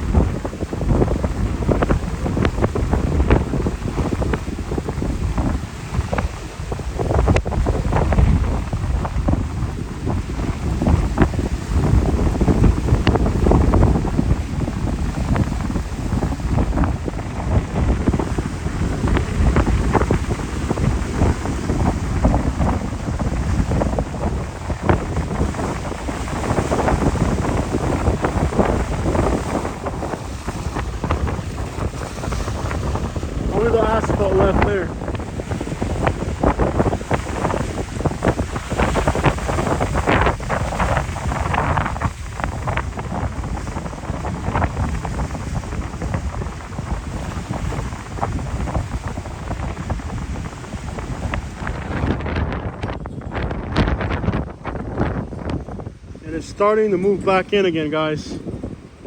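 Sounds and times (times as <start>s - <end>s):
storm wind buffeting microphone: 0.0s - 59.0s.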